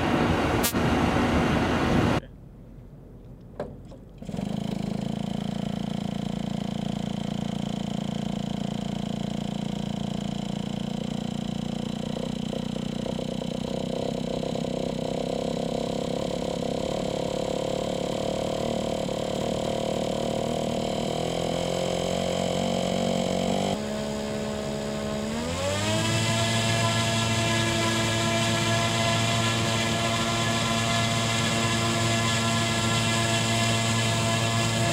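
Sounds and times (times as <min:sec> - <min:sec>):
electric starter motor drone: 0:04.2 - 0:34.9
small engine revving: 0:04.2 - 0:34.9.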